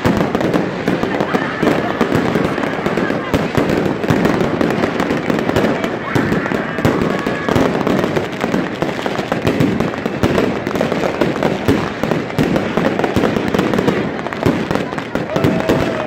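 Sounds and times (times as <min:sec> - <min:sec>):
fireworks and firecrackers banging: 0:00.0 - 0:16.0.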